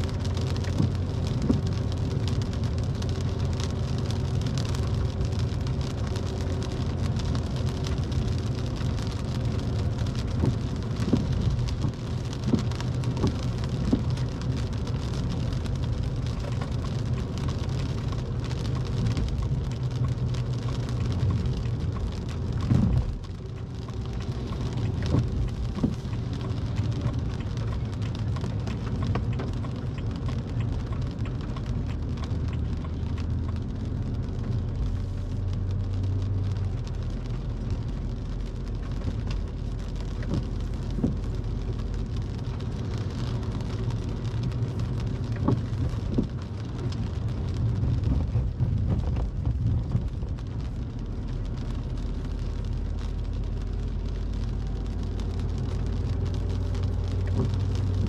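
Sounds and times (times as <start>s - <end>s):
rain on car windshield: 0.0s - 58.0s
tyres rumbling on wet road: 0.0s - 58.0s.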